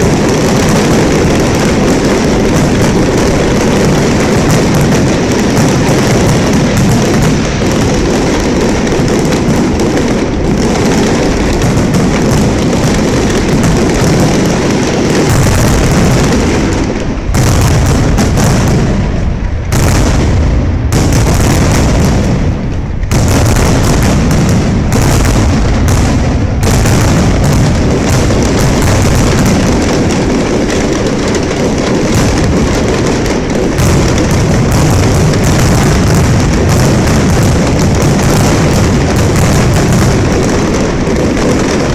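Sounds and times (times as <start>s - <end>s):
fireworks booming and crackling: 0.0s - 41.9s.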